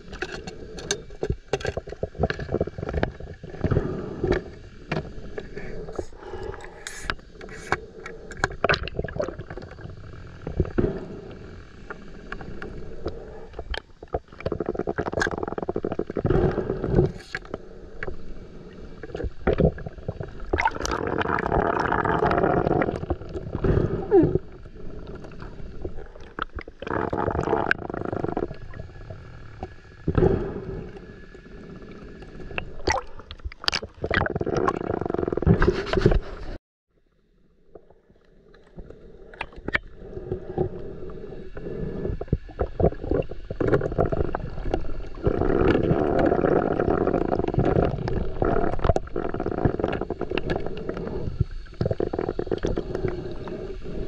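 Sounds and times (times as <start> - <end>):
water swishing and gurgling: 0.0 - 54.0.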